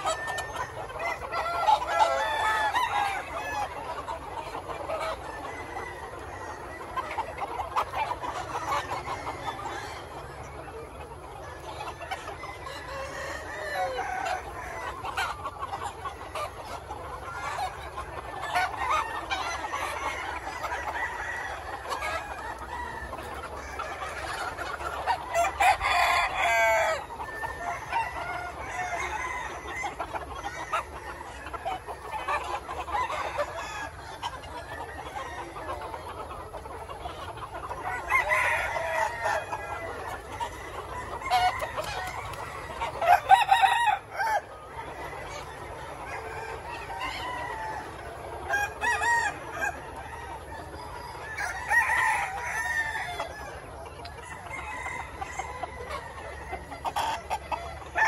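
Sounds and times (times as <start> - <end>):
roosters crowing: 0.0 - 7.4, 12.2 - 58.0
chickens clucking: 0.0 - 58.0.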